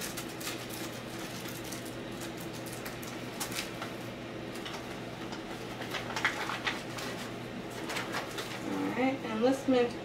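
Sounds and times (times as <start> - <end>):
cards and envelopes rustling: 0.0 - 8.8
steady low hum: 0.0 - 10.0.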